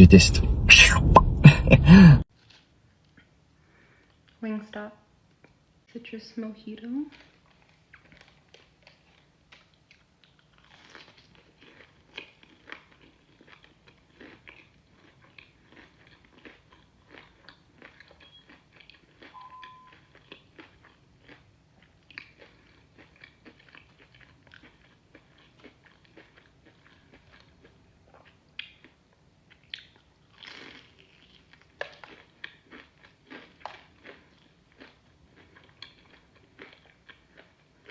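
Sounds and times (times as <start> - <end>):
person chewing crunchy food: 7.1 - 37.9.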